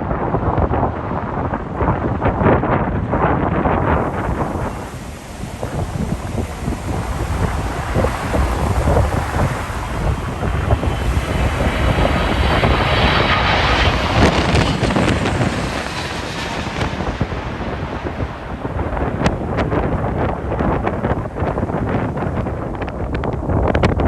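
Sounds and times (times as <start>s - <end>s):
jet airliner passing low: 0.0s - 23.3s
wind buffeting microphone: 0.0s - 24.0s.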